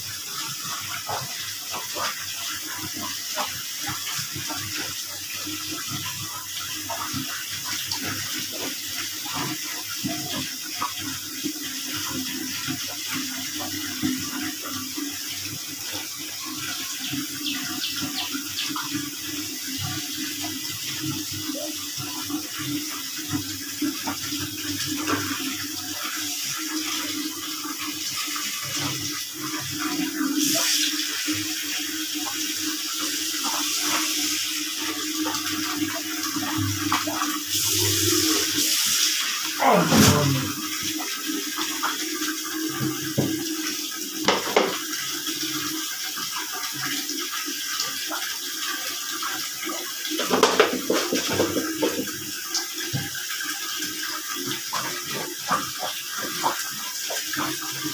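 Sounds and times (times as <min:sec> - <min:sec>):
water running: 0:00.0 - 0:57.9.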